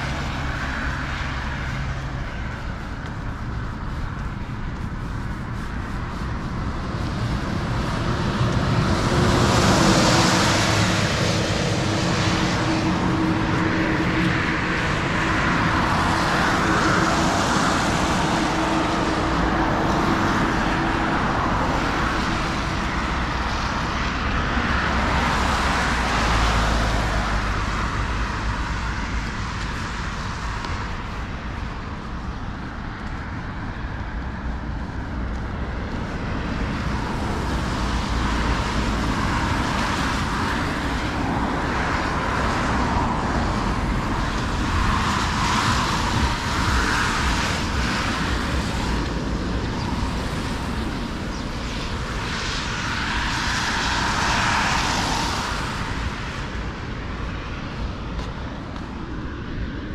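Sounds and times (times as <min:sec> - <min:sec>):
cars passing: 0:00.0 - 0:59.9.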